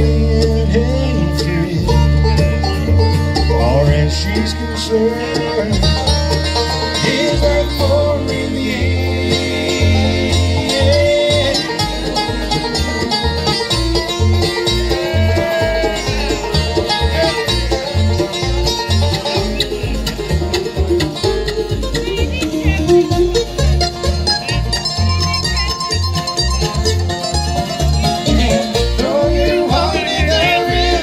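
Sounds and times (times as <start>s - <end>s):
banjo: 0.0s - 31.0s
bass: 0.0s - 31.0s
guitar: 0.0s - 31.0s.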